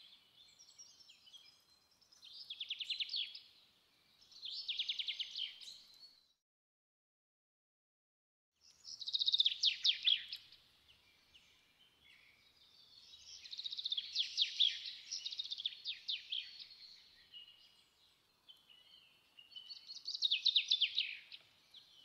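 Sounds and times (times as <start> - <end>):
songbirds chirping: 0.0 - 6.4, 8.6 - 22.0.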